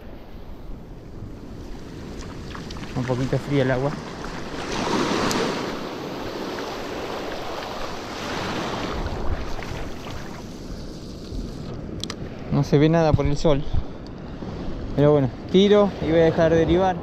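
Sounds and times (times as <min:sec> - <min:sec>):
surf washing in shallows: 0:00.0 - 0:17.0.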